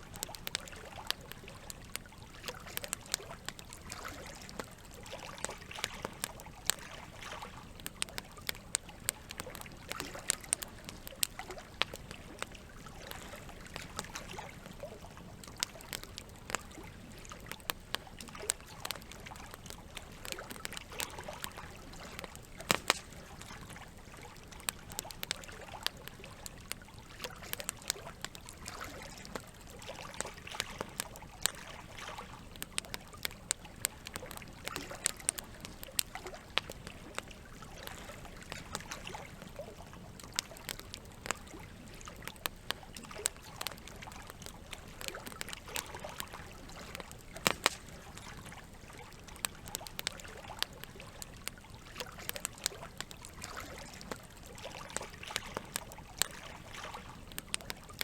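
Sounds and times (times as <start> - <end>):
campfire crackling and popping: 0.0 - 58.0
trickling water: 0.0 - 58.0.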